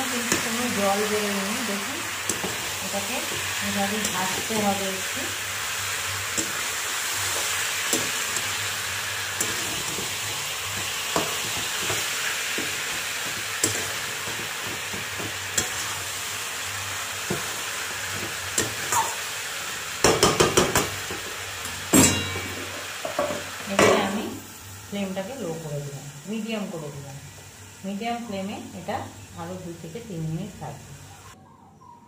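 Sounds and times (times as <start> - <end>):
chicken sizzling in pot: 0.0 - 31.4.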